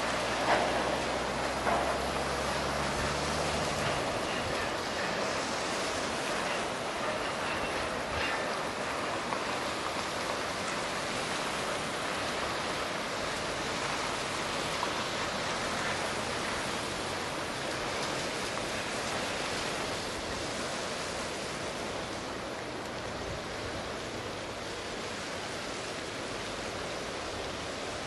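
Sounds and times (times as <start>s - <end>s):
distant freight train rushing: 0.0s - 28.0s.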